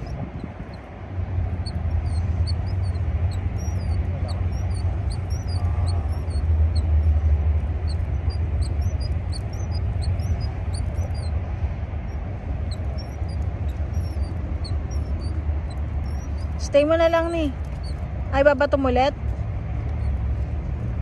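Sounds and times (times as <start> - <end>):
low wind rumble on microphone: 0.0 - 21.0
small birds chirping: 0.0 - 21.0.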